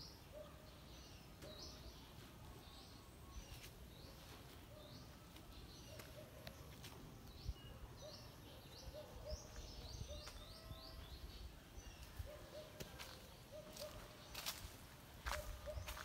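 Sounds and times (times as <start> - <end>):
bird chirping: 0.0 - 16.0
outdoor background noise: 0.0 - 16.0.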